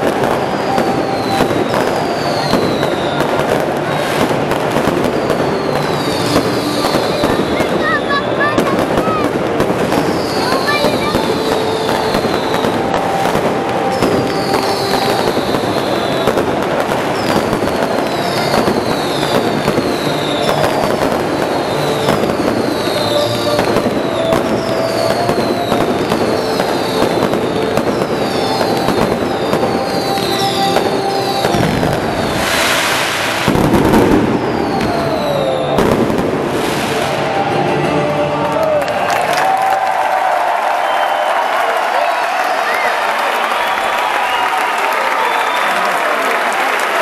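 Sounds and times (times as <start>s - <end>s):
fireworks whistling: 0.0s - 38.1s, 40.6s - 47.0s
fireworks crackling: 0.0s - 47.0s
fireworks rushing burst: 0.0s - 47.0s.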